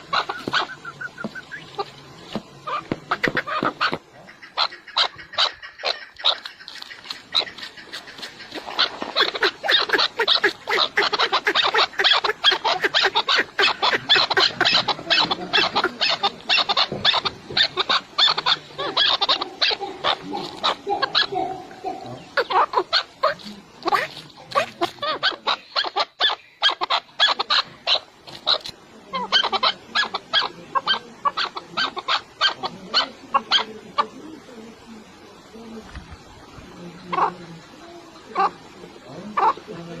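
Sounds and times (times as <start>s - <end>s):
flock of birds chattering: 0.0s - 40.0s.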